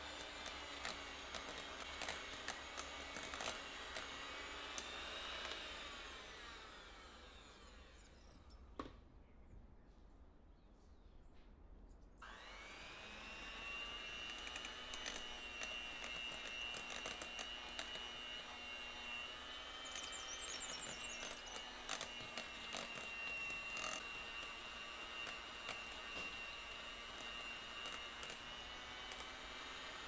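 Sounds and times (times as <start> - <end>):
electric mixer whine: 0.0 - 8.3, 12.2 - 30.0.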